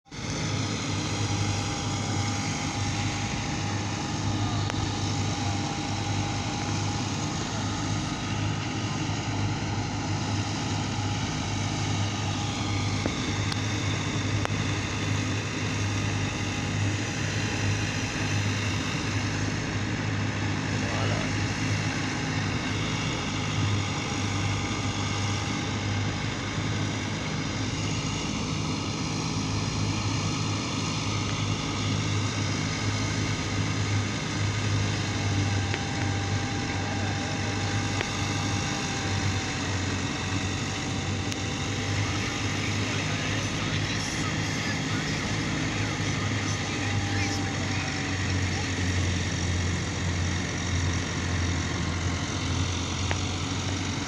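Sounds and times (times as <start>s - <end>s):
harvester engine humming: 0.1s - 54.0s.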